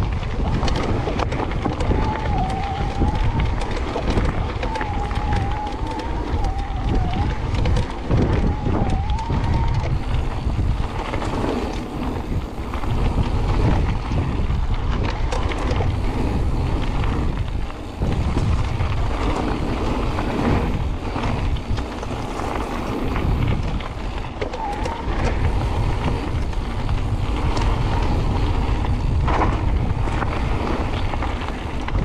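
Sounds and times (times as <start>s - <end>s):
bike rattling: 0.0s - 32.0s
tyres crunching over gravel: 0.0s - 32.0s
wind buffeting microphone: 0.0s - 32.0s.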